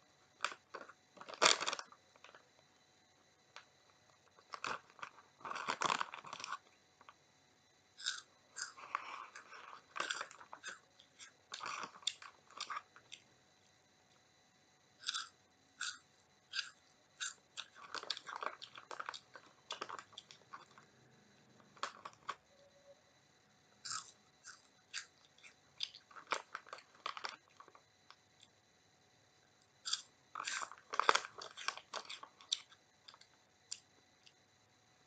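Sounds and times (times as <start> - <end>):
crunching and chewing puffs: 0.0 - 2.8, 3.4 - 7.2, 7.9 - 14.3, 15.0 - 22.6, 23.8 - 28.6, 29.5 - 34.4.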